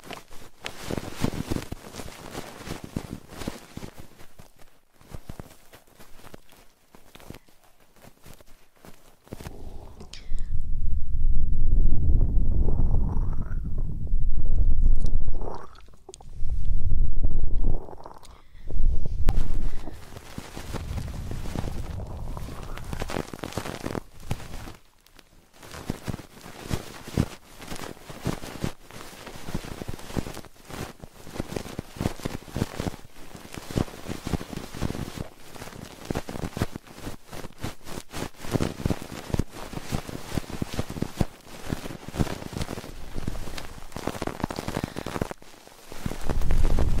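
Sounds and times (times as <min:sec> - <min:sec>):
close-up crackling and scratching: 0:00.0 - 0:10.5, 0:12.5 - 0:47.0.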